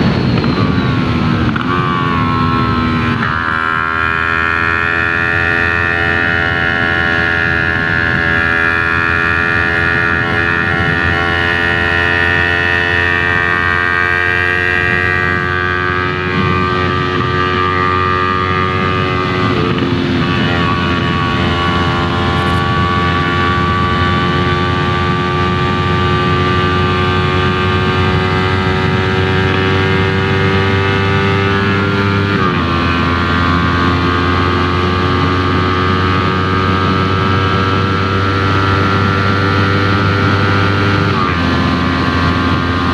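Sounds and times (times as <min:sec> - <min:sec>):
motorcycle engine shifting gears: 0:00.0 - 0:42.9.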